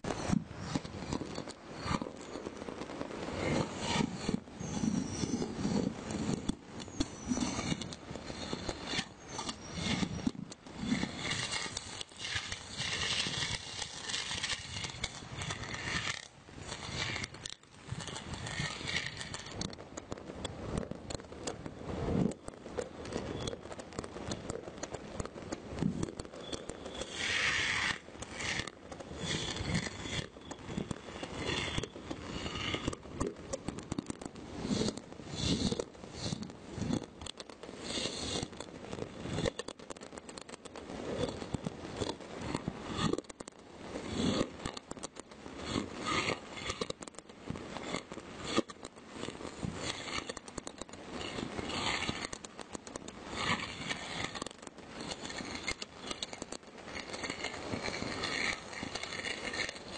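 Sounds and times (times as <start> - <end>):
fireworks popping and crackling: 0.0 - 59.9.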